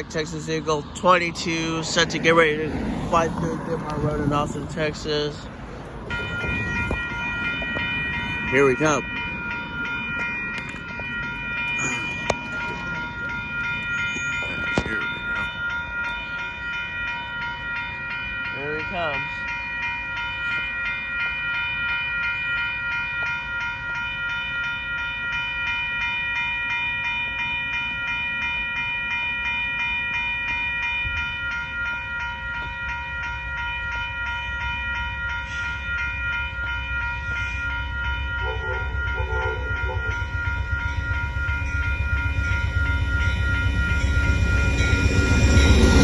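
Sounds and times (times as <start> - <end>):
low train rumble: 0.0 - 46.0
railroad crossing bell ringing: 0.0 - 46.0.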